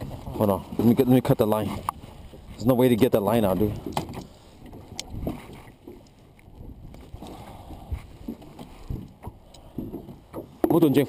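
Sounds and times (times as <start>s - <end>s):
fishing net and line handling: 0.0s - 10.8s.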